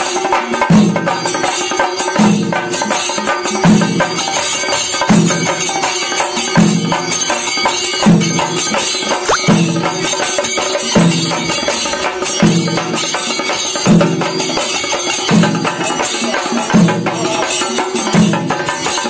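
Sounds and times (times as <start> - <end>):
drums beaten with sticks: 0.0 - 8.4, 10.9 - 19.0.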